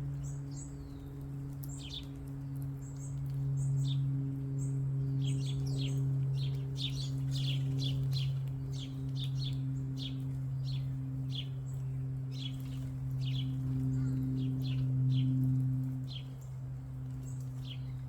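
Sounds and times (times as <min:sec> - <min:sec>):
songbirds chirping: 0:00.0 - 0:18.0
steady low hum: 0:00.0 - 0:18.0.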